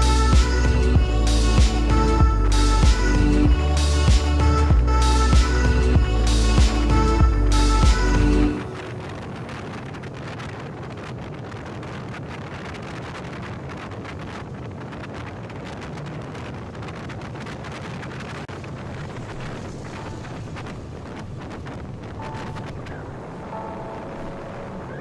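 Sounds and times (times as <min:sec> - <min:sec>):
motorcycle engine drone: 0:00.0 - 0:25.0
wind buffeting microphone: 0:00.0 - 0:25.0.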